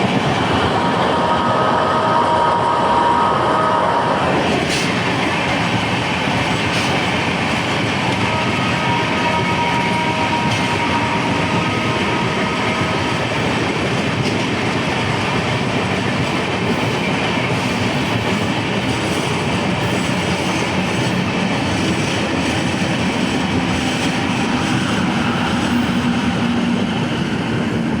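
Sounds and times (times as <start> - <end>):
train wheels rushing on rails: 0.0 - 28.0.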